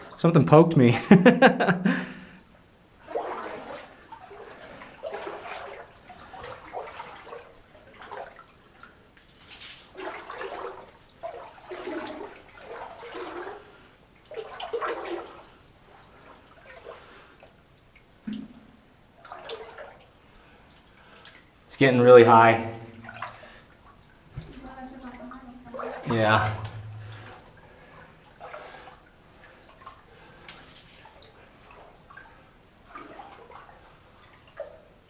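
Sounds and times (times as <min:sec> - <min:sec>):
water sloshing as person wades: 0:00.0 - 0:21.7, 0:22.4 - 0:35.0.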